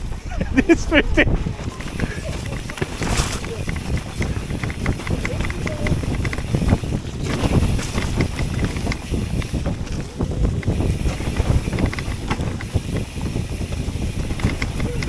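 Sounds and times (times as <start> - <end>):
bike rattling over bumps: 0.0 - 15.0
bike tyres rolling on dirt: 0.0 - 15.0
wind buffeting microphone: 0.0 - 15.0.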